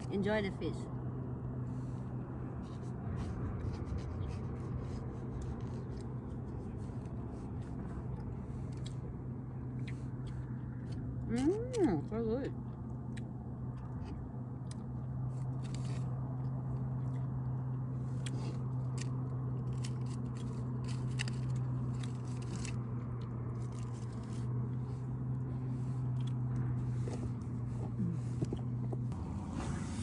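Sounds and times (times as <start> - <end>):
steady low hum: 0.0 - 30.0
chewing: 2.6 - 29.1.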